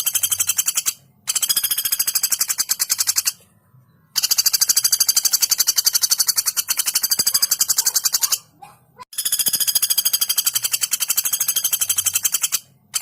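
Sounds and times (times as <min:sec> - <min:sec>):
woodpecker calling in rapid rattle: 0:00.0 - 0:03.4, 0:04.1 - 0:08.5, 0:09.1 - 0:13.0.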